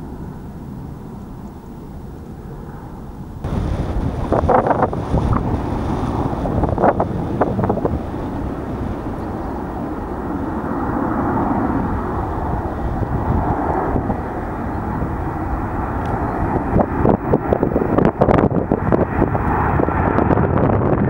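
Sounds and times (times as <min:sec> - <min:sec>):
jet engines at takeoff thrust: 0:00.0 - 0:21.0
wind buffeting microphone: 0:02.7 - 0:21.0.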